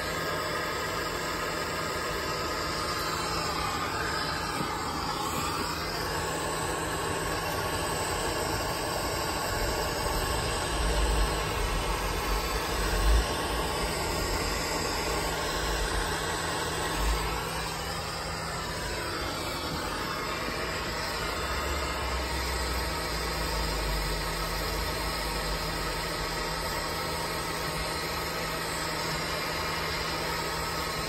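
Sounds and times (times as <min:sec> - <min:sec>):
gas torch hissing: 0:00.0 - 0:31.0.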